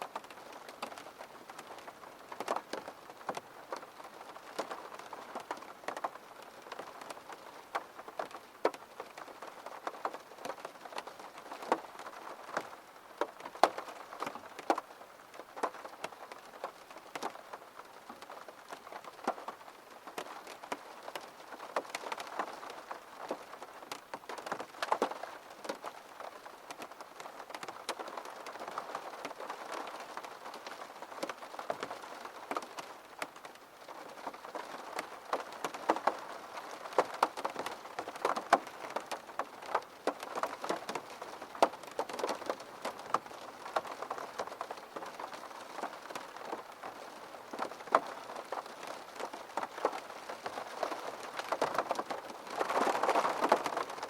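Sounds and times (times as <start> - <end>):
rain tapping on a window: 0.0 - 54.0.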